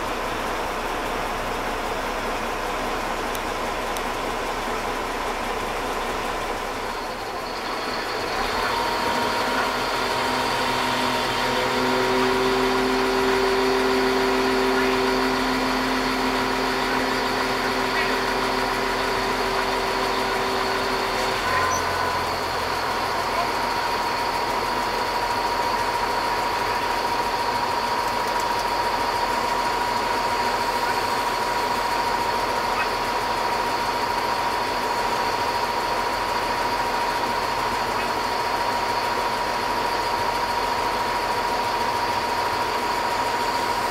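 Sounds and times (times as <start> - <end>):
diesel engine and hydraulics running: 0.0 - 43.9
steady whining tones: 0.0 - 43.9.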